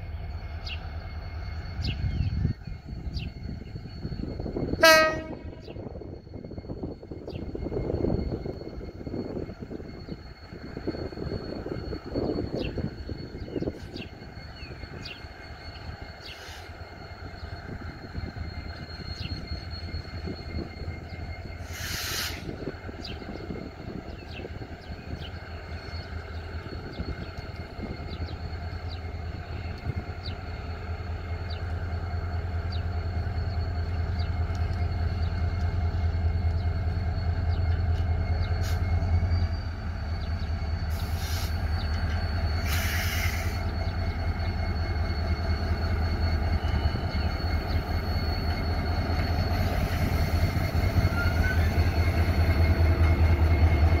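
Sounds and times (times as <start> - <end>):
high whine: 0.0 - 54.0
locomotive engine drone: 0.0 - 54.0.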